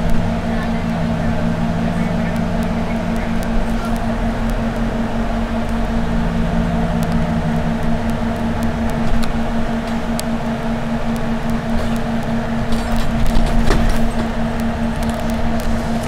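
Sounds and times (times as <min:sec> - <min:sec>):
constant mid-pitched tone: 0:00.0 - 0:16.0
faint clicks: 0:00.0 - 0:16.0
train car hum and rumble: 0:00.0 - 0:16.0.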